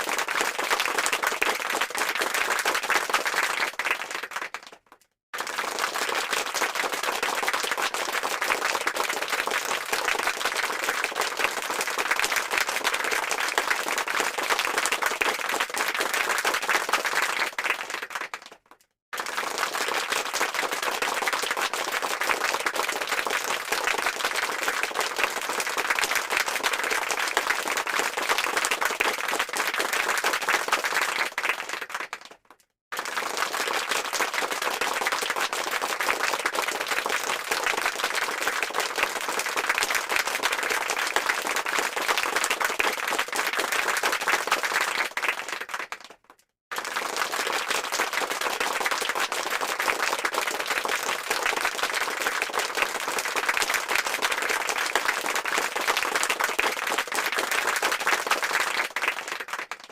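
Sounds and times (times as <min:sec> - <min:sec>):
crowd clapping: 0:00.0 - 0:59.9.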